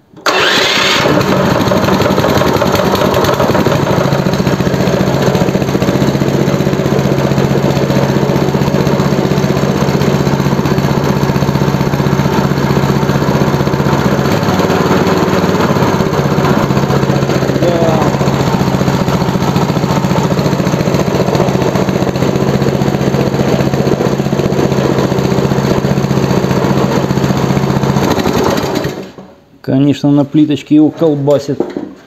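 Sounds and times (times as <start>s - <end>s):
single-cylinder engine running: 0.2s - 29.3s.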